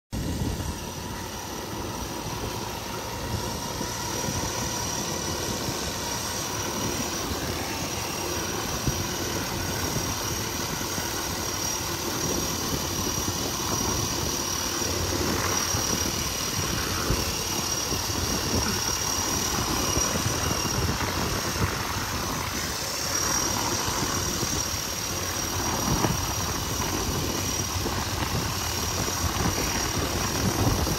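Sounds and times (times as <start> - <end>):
aircraft engines droning: 0.1 - 30.9
high whine: 0.1 - 30.9.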